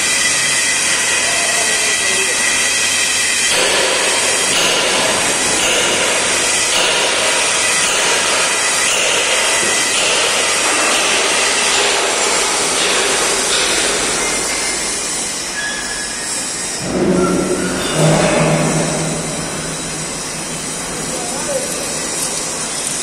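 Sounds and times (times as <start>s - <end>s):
welding hiss: 0.0s - 23.0s.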